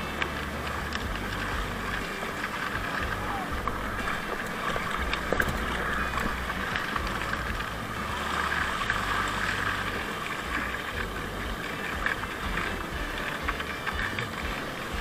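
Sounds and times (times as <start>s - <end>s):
water splashing along hull: 0.0s - 15.0s
wind rumbling on microphone: 0.0s - 15.0s.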